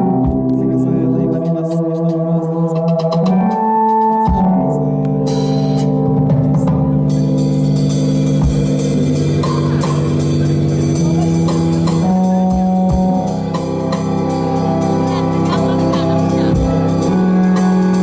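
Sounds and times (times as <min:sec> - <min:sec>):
drum kit playing: 0:00.0 - 0:02.2, 0:02.8 - 0:18.0
synthesizer organ-like chords: 0:00.0 - 0:18.0.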